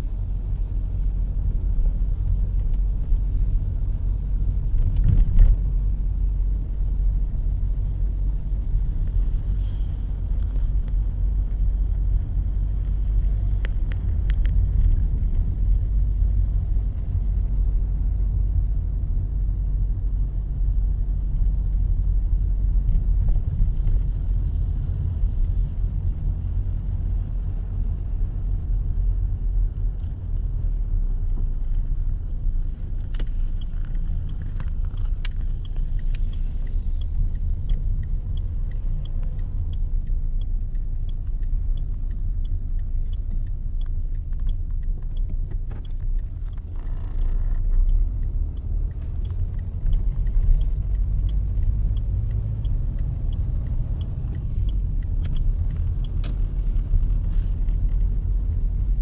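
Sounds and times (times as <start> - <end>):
car engine and tyres rumbling: 0.0 - 59.0
light ticking: 0.1 - 59.0.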